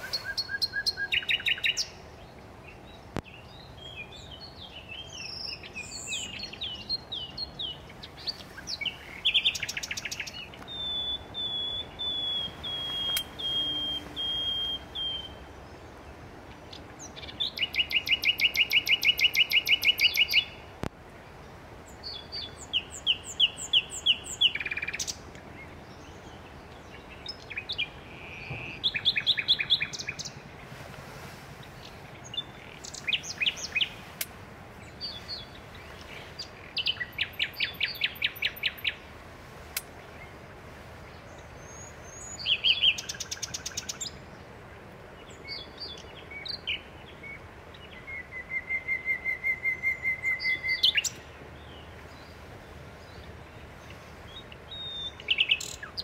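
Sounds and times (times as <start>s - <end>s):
nightingale singing: 0.0s - 20.8s, 21.9s - 30.5s, 31.6s - 56.0s.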